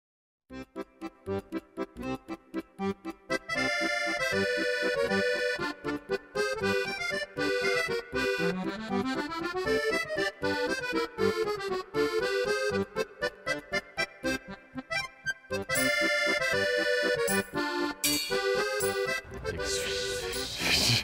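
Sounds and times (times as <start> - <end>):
accordion tune: 0.5 - 21.0.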